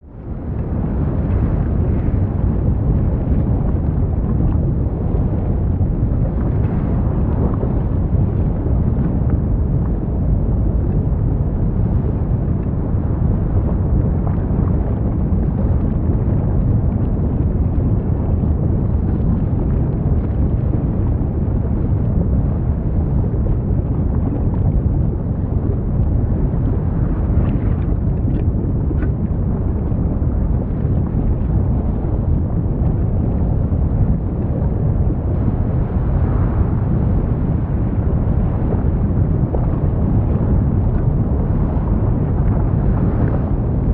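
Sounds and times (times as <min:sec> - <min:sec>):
deep rumble: 0:00.0 - 0:43.9
faint crackles: 0:00.2 - 0:43.9.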